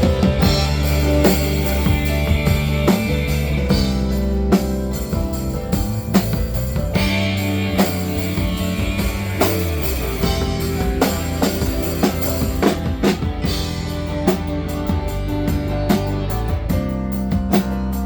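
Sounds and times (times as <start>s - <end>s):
bass drum strikes: 0.0s - 18.0s
live band playing: 0.0s - 18.0s.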